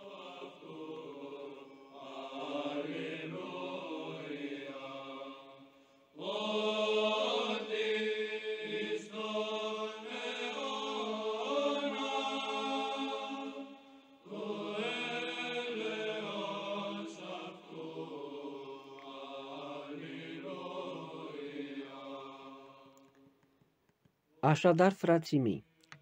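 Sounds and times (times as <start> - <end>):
slow choral chanting: 0.0 - 23.6.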